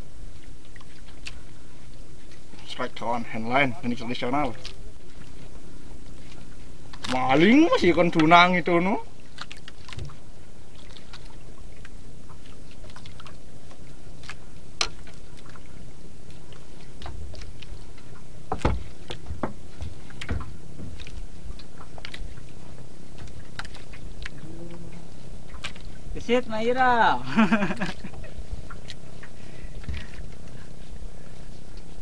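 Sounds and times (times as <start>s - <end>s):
boat engine rumble: 0.0s - 32.0s.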